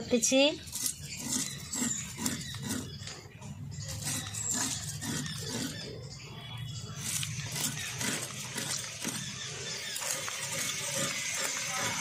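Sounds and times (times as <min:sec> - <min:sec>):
blade scraping fish scales: 0:00.6 - 0:12.0.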